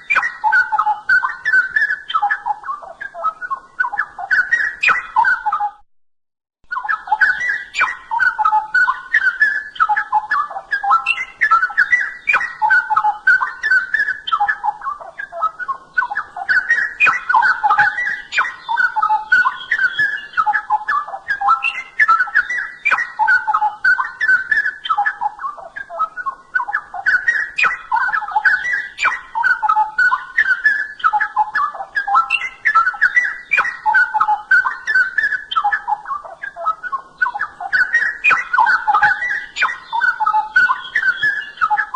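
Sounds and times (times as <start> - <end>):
bird singing rapid phrases: 0.0 - 5.8, 6.6 - 41.9.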